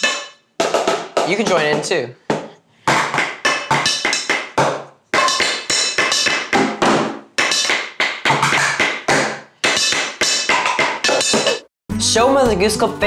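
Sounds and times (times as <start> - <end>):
sticks tapping plastic containers: 0.0 - 11.6
stick tapping metal pot: 0.0 - 11.7.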